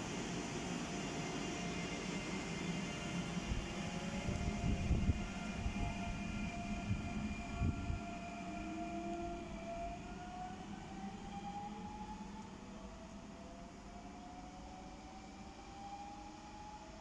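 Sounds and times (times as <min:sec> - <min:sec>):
train rail rumble: 0:00.0 - 0:13.9
traction motors whine: 0:00.0 - 0:17.0.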